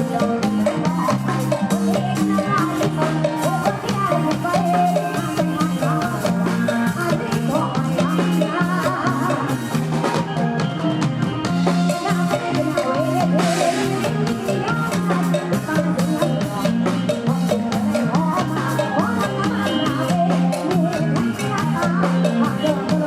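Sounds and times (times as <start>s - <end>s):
bending melodic lead: 0.0s - 23.0s
drum kit: 0.0s - 23.0s
live band music: 0.0s - 23.0s
repeating bass line: 0.0s - 23.0s.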